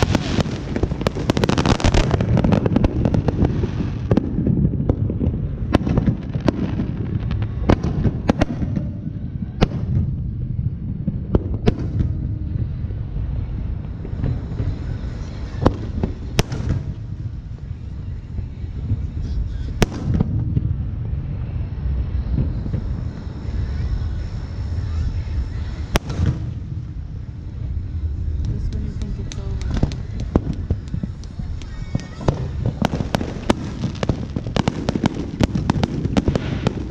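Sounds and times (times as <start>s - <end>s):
fireworks bangs: 0.0s - 36.9s
low rumble of bursts: 0.0s - 36.9s.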